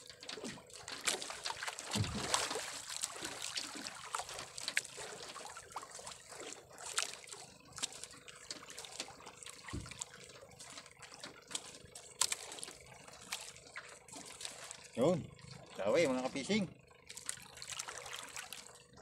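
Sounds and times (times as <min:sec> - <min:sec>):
water lapping against boat: 0:00.0 - 0:19.0
water trickles and drips: 0:00.0 - 0:19.0.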